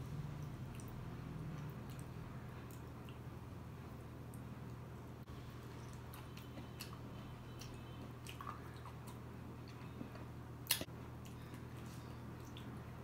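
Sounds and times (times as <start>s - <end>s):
steady low hum: 0.0s - 13.0s
mouth chewing soft food: 0.1s - 3.4s, 5.6s - 13.0s.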